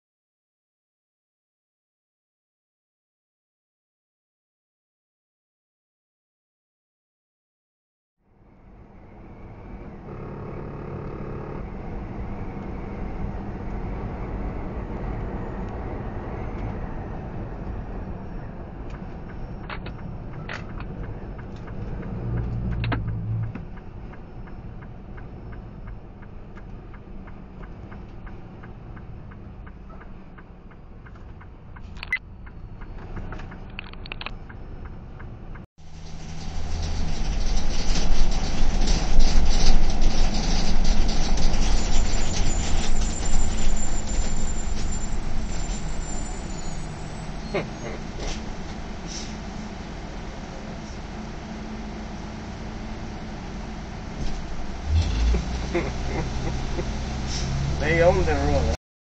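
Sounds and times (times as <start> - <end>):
truck engine and road rumble: 8.2 - 58.8.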